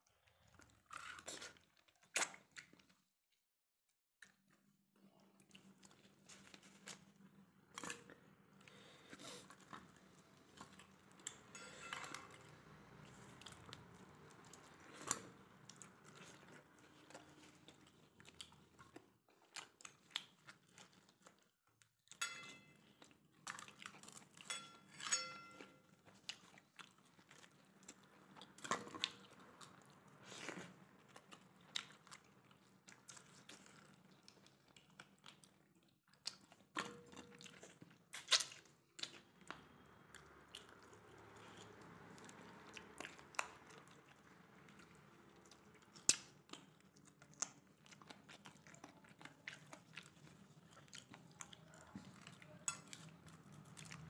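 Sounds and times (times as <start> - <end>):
person chewing and crunching: 0.0 - 3.1, 4.2 - 54.0.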